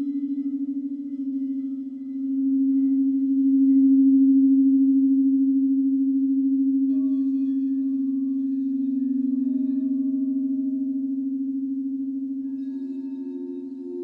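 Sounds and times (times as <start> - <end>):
higher-pitched bowl struck: 0.0 - 14.0
singing bowl low tone: 0.0 - 14.0.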